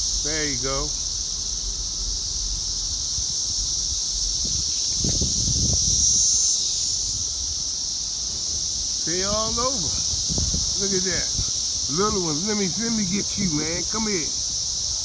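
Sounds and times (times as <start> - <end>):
low rustles: 0.0 - 14.6
cicadas droning: 0.0 - 15.0.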